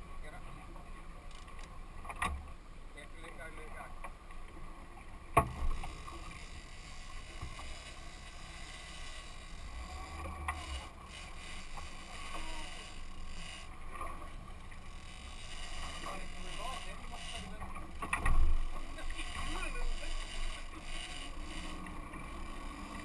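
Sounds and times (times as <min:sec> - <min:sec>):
wind and sea rumble: 0:00.0 - 0:23.0.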